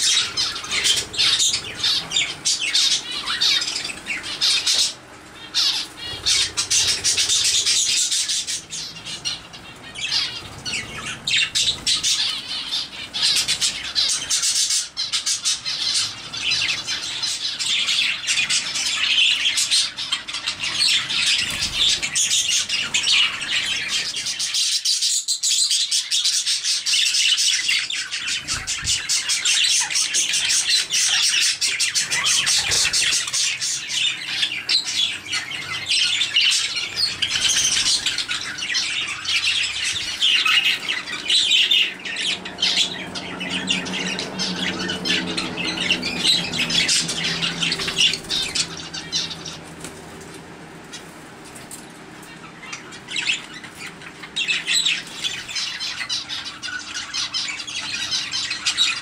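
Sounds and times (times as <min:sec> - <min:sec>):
small birds chirping chorus: 0:00.0 - 0:59.0.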